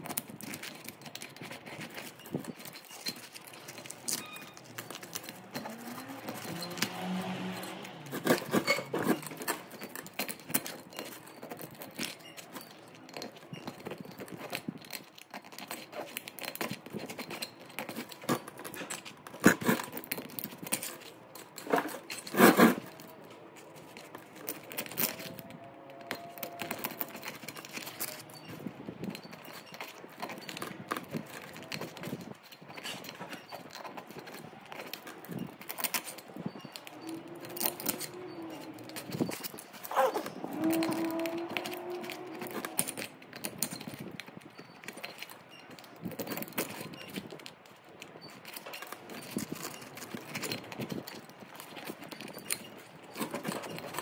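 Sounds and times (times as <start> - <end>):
clicking and clattering of hand tools: 0.0 - 54.0.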